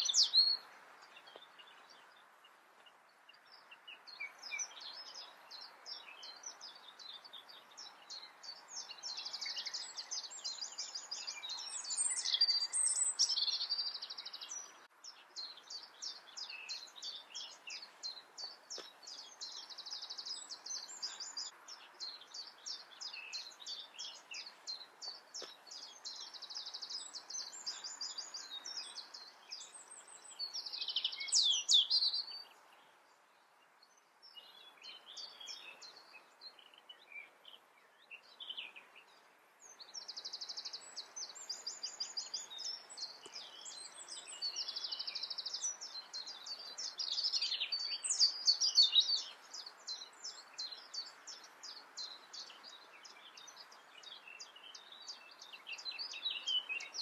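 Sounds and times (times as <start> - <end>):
robin singing: 0.0 - 57.0.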